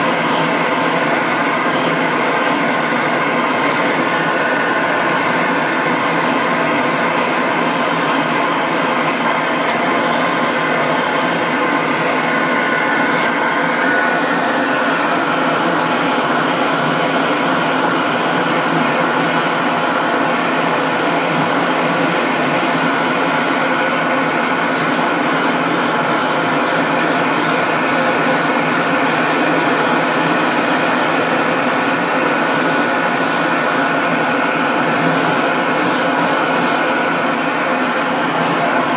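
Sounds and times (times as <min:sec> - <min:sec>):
blow dryer running: 0:00.0 - 0:38.9.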